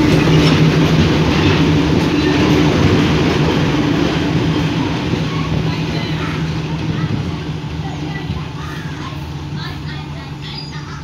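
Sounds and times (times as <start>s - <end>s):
diesel locomotive engine drone: 0.0s - 11.0s
rail noise: 0.0s - 11.0s.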